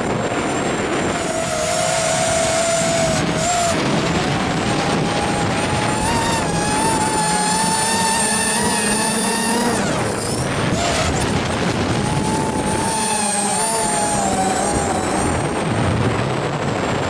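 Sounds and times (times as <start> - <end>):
drone motors whining: 0.0 - 16.9
wind rushing over microphone: 0.0 - 17.0.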